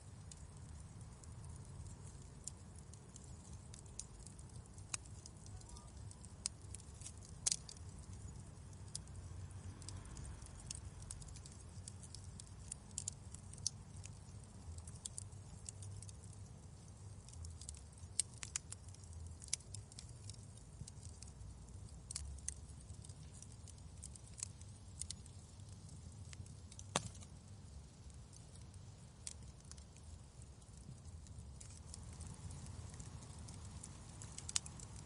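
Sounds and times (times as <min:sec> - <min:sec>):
fire pops and snaps: 0:00.0 - 0:35.0
low fire rumble: 0:00.0 - 0:35.0
wood fire crackling: 0:00.0 - 0:35.0.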